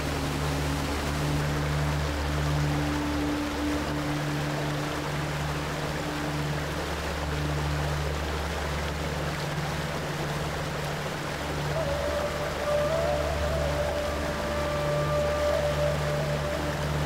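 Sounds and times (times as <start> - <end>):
river rushing over rocks: 0.0 - 17.0
soft low background music: 0.0 - 17.0.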